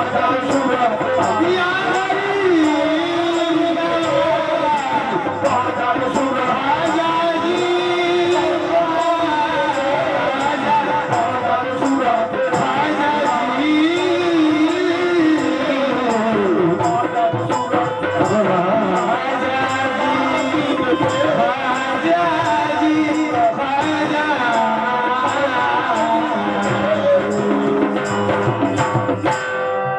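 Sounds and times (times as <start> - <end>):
man singing: 0.0 - 29.4
hand drum: 0.0 - 29.9
harmonium: 0.0 - 29.9.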